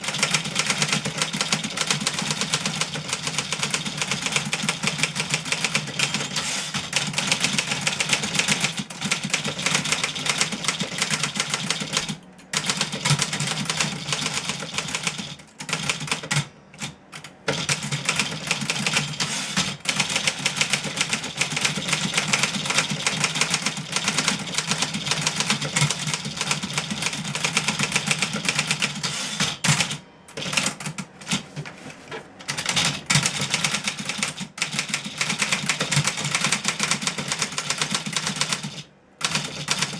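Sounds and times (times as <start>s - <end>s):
typewriter typing fast: 0.0s - 31.7s, 32.4s - 39.9s.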